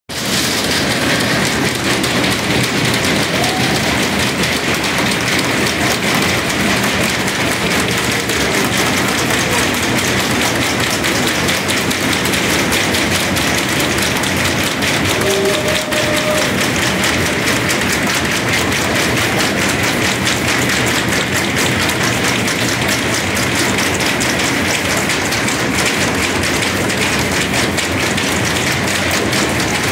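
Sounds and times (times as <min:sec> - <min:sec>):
crowd clapping and making noise: 0:00.1 - 0:29.9.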